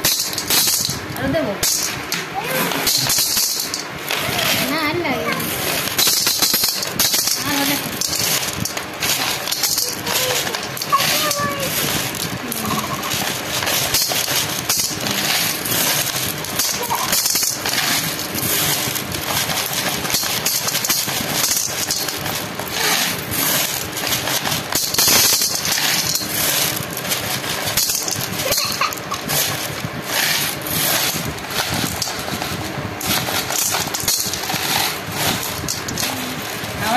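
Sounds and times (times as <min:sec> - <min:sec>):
glass marbles clacking: 0:00.0 - 0:36.9.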